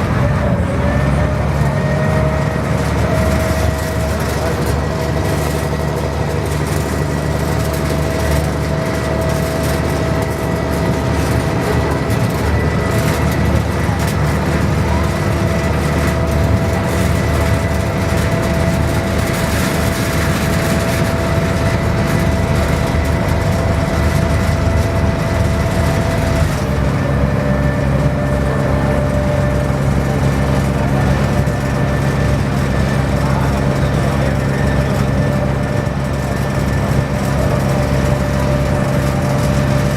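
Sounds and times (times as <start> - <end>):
ferry engine droning with whine: 0.0 - 39.9.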